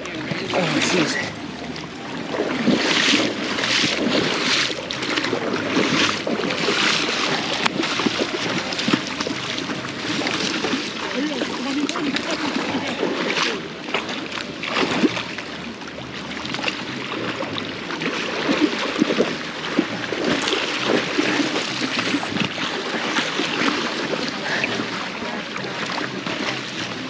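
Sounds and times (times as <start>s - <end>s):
river water rushing: 0.0s - 27.0s
water splashing and sloshing: 0.0s - 27.0s.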